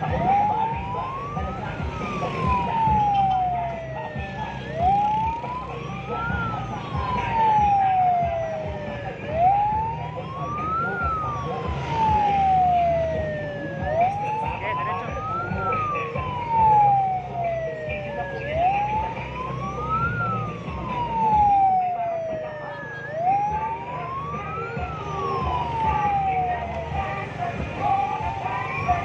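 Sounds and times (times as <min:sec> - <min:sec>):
electronic wail siren: 0:00.0 - 0:29.0
vehicle engine and road noise: 0:00.0 - 0:29.0.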